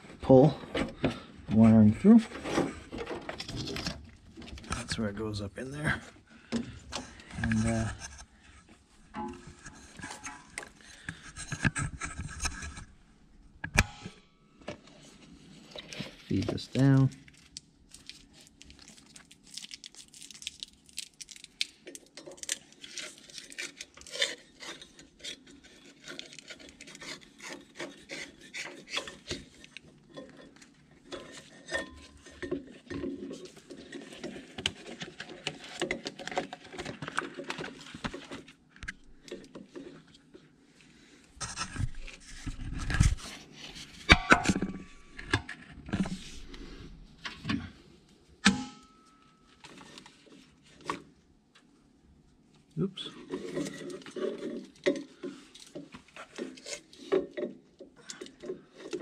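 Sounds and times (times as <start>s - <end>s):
rubbing and rustling of wiring: 0.0s - 13.0s, 14.8s - 47.8s, 49.5s - 51.7s, 52.4s - 59.0s.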